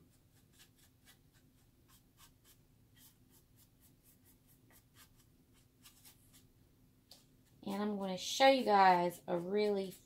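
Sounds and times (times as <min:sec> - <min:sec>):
paintbrush dabbing on wood: 0:00.0 - 0:10.0.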